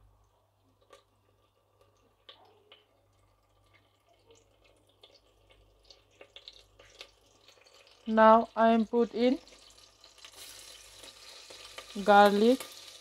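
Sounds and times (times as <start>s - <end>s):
butter crackling in a pot: 0.0s - 13.0s.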